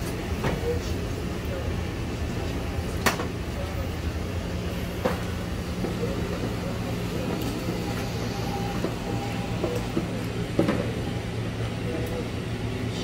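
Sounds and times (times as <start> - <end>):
kitchen equipment hum: 0.0 - 13.0.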